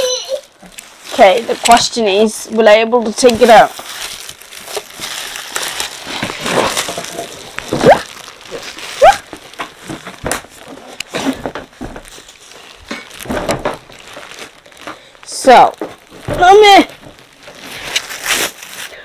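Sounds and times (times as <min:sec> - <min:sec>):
cardboard and plastic rustling: 0:00.0 - 0:19.0.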